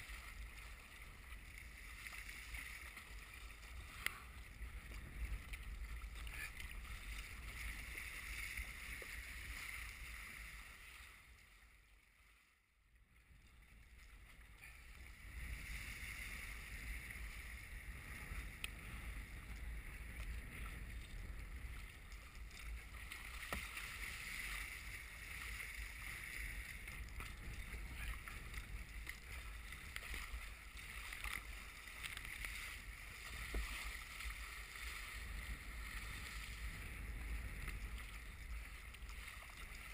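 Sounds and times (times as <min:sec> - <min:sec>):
waves splashing against kayak: 0:00.0 - 0:11.5, 0:13.4 - 0:39.9.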